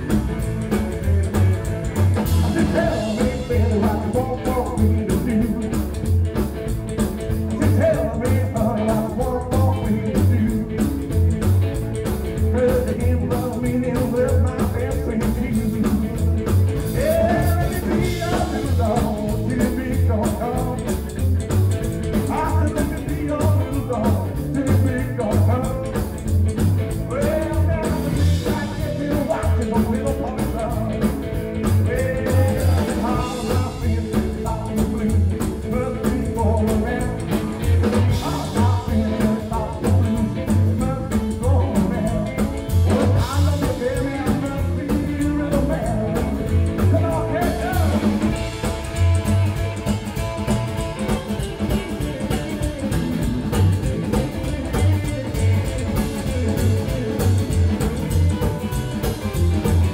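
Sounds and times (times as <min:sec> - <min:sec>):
double bass thumping beat: 0:00.0 - 0:59.9
rockabilly band playing: 0:00.0 - 0:59.9.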